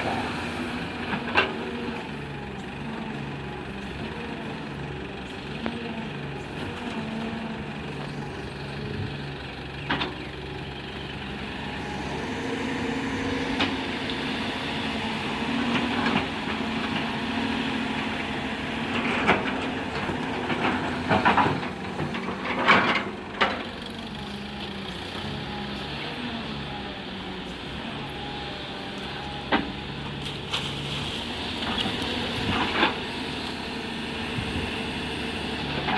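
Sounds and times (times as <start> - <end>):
heavy diesel machinery running: 0.0 - 35.9.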